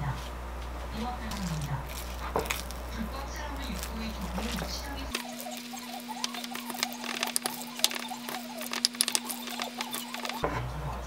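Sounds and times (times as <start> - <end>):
wooden spoon stirring in ceramic bowl: 0.9 - 10.4.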